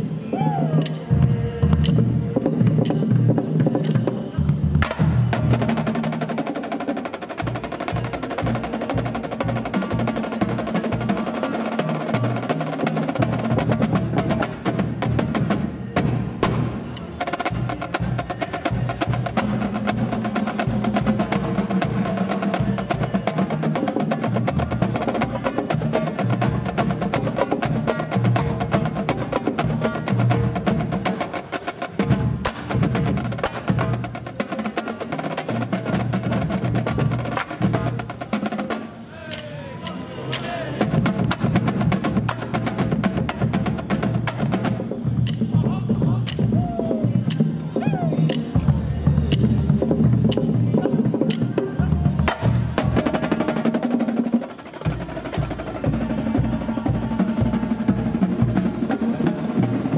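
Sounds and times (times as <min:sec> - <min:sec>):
marching drumline cadence: 0:00.0 - 0:59.9.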